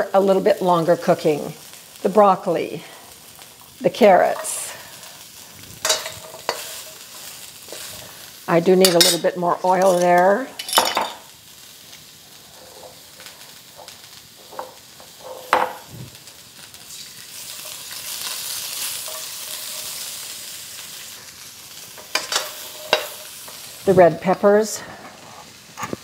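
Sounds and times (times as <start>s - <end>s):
vegetables sizzling in a wok: 0.0s - 26.0s.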